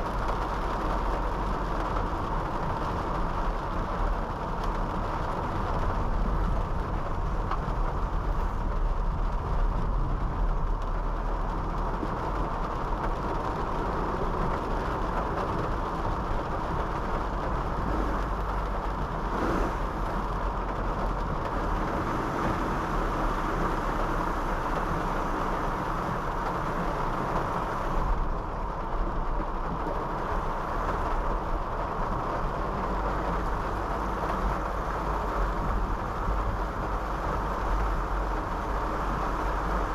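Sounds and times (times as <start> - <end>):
car road noise on wet road: 0.0 - 39.9.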